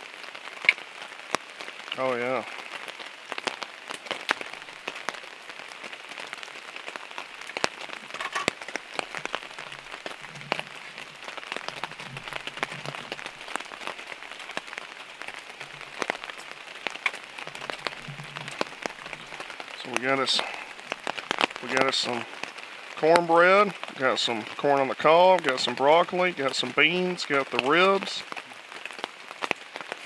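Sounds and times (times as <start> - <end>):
rain falling: 0.0 - 30.0
sharp raindrop strikes: 0.0 - 30.0.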